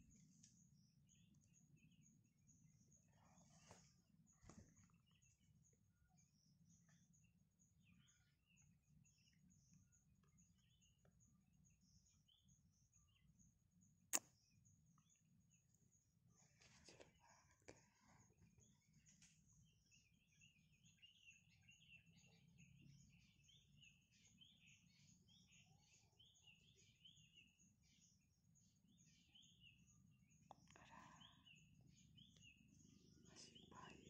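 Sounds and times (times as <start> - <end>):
faint bird chirps: 0.0 - 34.0.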